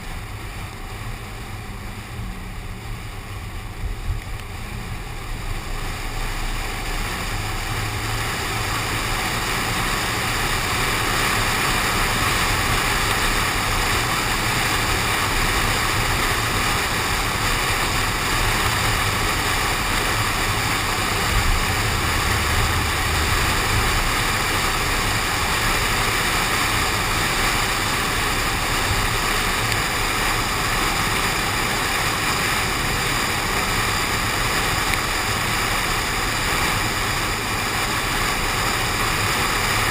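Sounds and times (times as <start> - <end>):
rushing wind: 0.0 - 39.9
tyre noise on wet road: 0.0 - 39.9.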